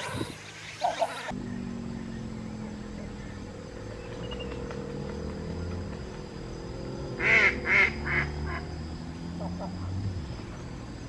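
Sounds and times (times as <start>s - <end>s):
low steady hum: 1.3s - 11.0s.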